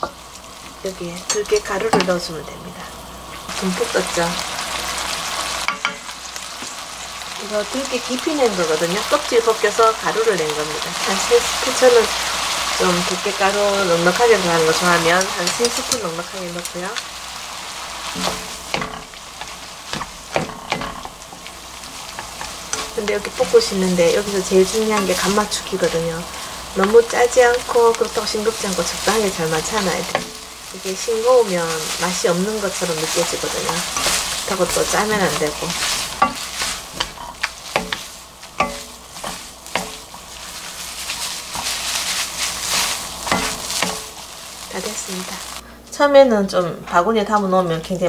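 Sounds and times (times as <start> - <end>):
wooden utensils clicking on pan: 0.0 - 2.3, 3.4 - 6.8, 7.6 - 17.1, 18.0 - 45.5
food sizzling in a wok: 0.0 - 48.0.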